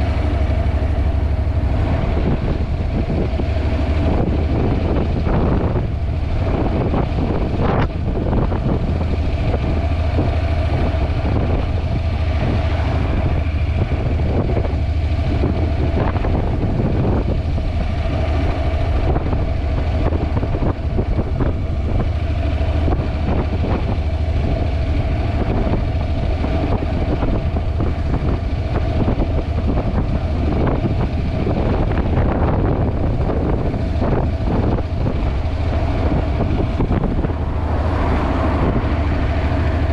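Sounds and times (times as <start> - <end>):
motorcycle engine tone: 0.0 - 39.9
wind rumble on microphone: 0.0 - 39.9.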